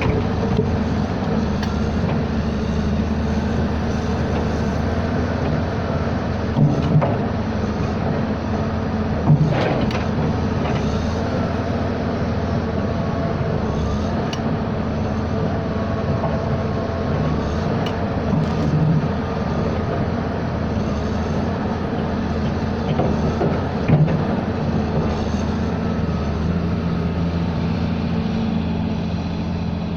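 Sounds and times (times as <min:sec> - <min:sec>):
vehicle engine rumble: 0:00.0 - 0:29.9.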